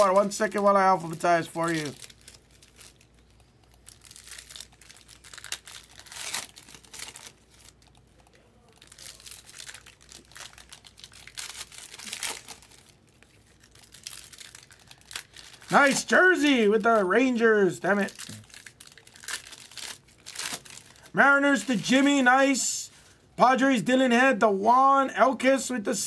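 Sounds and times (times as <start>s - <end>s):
foil wrappers crinkling: 0.0s - 23.0s.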